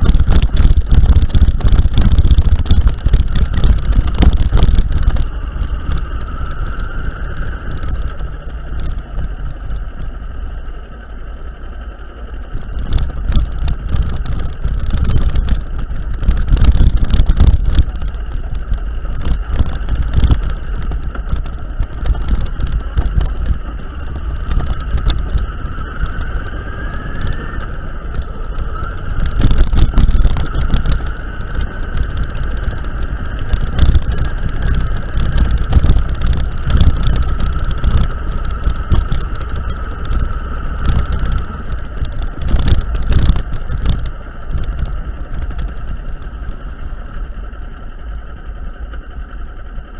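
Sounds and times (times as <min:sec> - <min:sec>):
engine whine: 0:00.0 - 0:49.9
rattles: 0:00.0 - 0:49.9
vehicle rumbling on rough road: 0:00.0 - 0:49.9.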